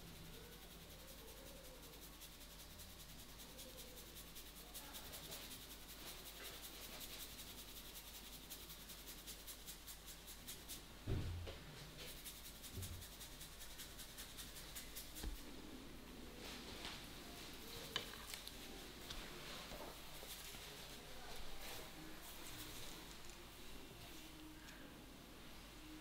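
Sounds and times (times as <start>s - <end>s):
hands rubbing hair: 0.7s - 10.9s, 11.8s - 15.6s, 16.3s - 24.6s.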